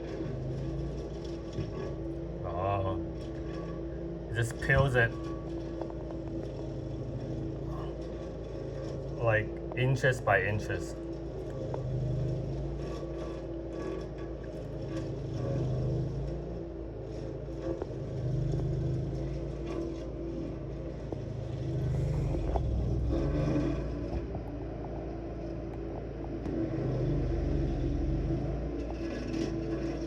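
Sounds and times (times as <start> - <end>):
stump grinder grinding: 0.0 - 30.0.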